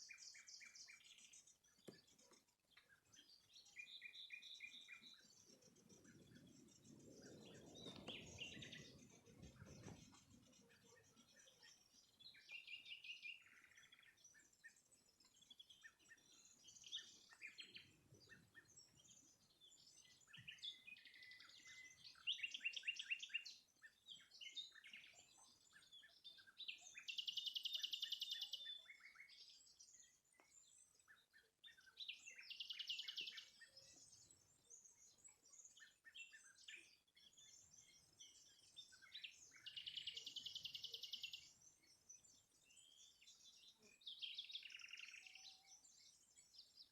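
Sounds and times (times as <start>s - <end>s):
songbird trill: 0.0s - 46.9s.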